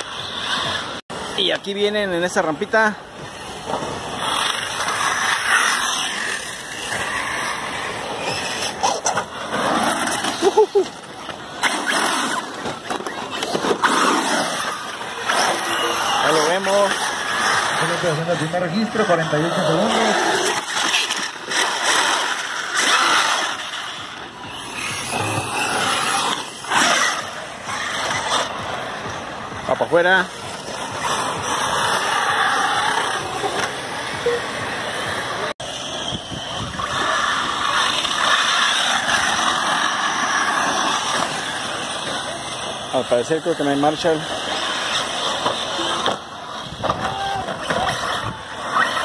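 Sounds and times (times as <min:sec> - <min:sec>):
toy trucks hissing on dirt: 0:02.2 - 0:49.0.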